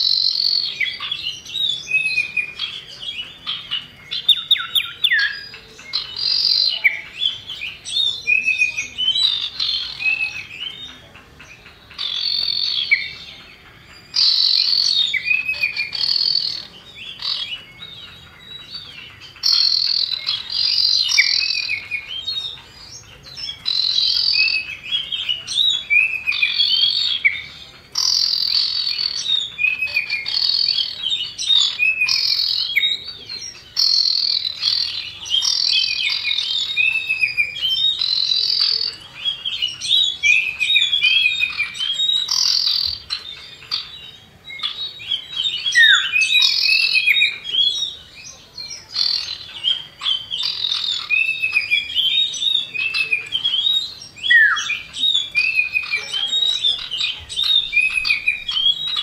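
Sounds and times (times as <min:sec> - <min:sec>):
bird chirps and whistles: 0:00.0 - 0:10.9, 0:11.9 - 0:13.3, 0:14.1 - 0:33.0, 0:33.8 - 0:48.0, 0:48.7 - 0:59.0.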